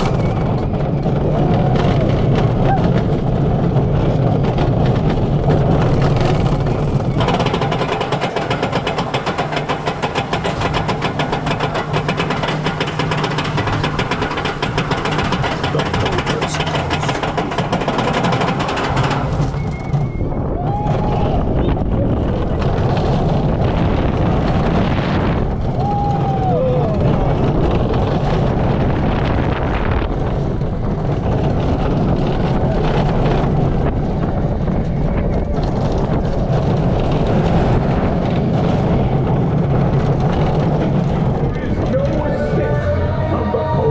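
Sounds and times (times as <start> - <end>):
fast rattling clatter: 0.0 - 43.3
roller coaster rumbling on track: 0.0 - 43.9.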